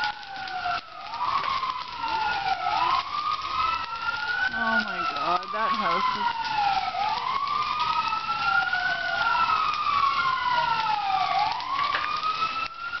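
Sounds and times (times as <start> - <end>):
emergency vehicle sirens wailing: 0.0 - 13.0.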